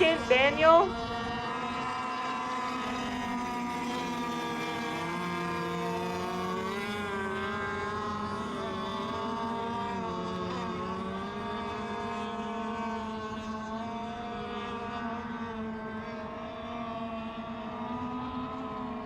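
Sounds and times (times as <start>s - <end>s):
radio-controlled boat engines whining: 0.0s - 19.0s.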